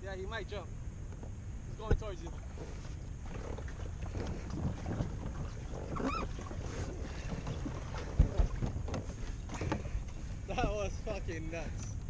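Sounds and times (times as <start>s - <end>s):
wind buffeting microphone: 1.0s - 12.0s.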